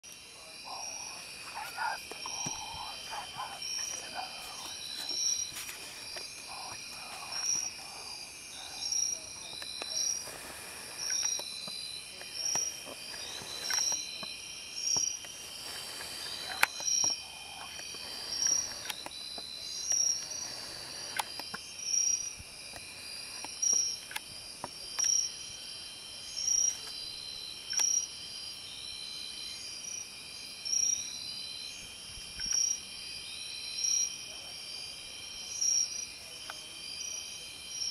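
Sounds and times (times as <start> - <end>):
insect chirp: 0.0 - 37.9
insects trilling: 0.1 - 37.9.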